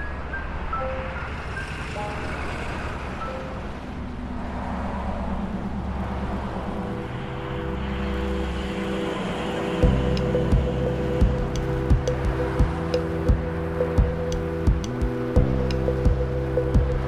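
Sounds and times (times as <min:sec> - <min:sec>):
engine hum: 0:00.0 - 0:17.0
road traffic rumble: 0:00.0 - 0:17.0.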